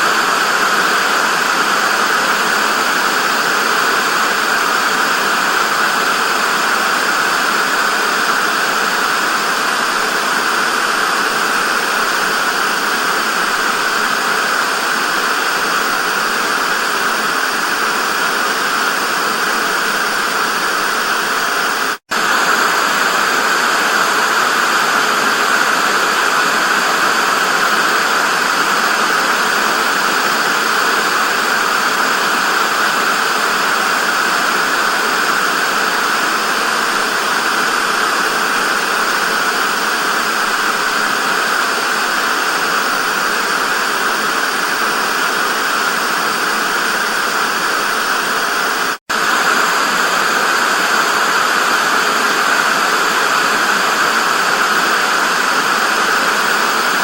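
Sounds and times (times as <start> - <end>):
tv static hiss: 0.0 - 57.0.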